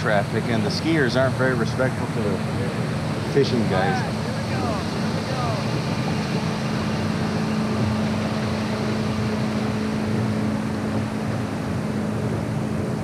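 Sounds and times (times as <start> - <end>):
boat motor humming: 0.0 - 13.0
wind: 0.0 - 13.0.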